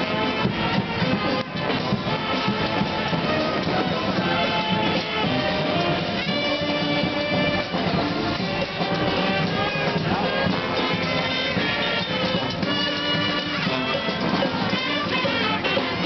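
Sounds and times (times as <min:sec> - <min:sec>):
brass band horns: 0:00.0 - 0:16.0
percussion: 0:00.0 - 0:16.0.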